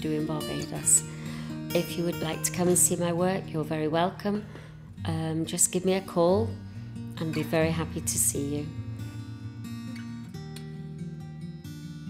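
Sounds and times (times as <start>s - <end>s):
guitar music with sustained notes: 0.0s - 12.0s.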